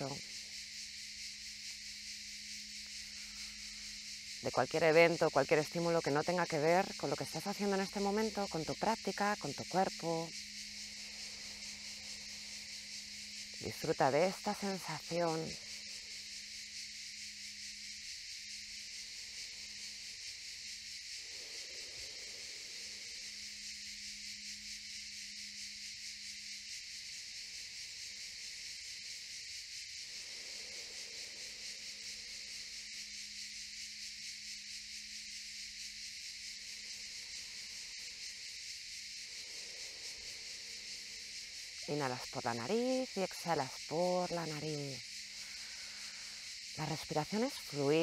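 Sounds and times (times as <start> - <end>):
high-pitched insect chirring: 0.0 - 48.0.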